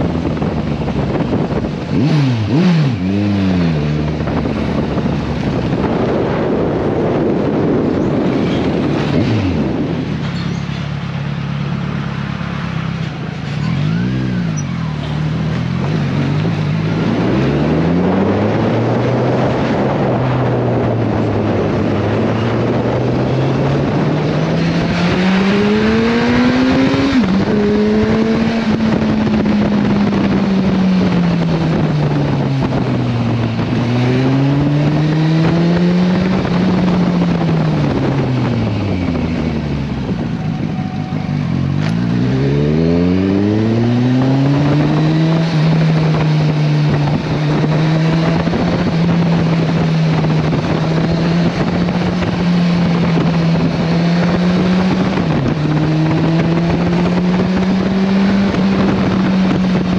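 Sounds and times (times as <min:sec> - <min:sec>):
wind rushing: 0:00.0 - 0:10.2, 0:15.7 - 0:59.9
motorcycle engine shifting gears: 0:00.0 - 0:59.9.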